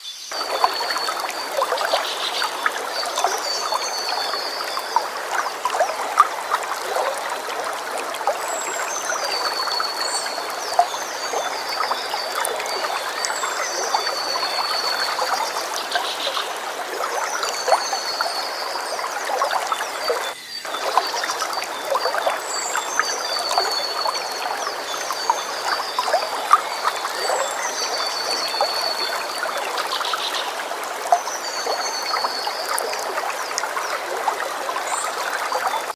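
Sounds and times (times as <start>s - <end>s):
river water running: 0.3s - 35.9s.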